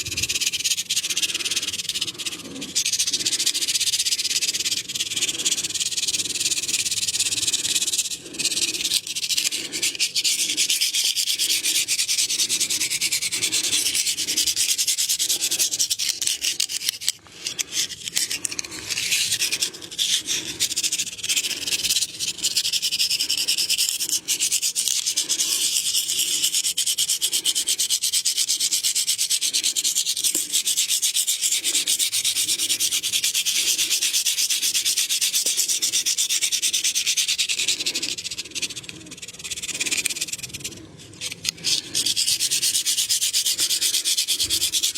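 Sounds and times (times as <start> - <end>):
hands rubbing skin: 0.0 - 27.9, 28.5 - 44.9.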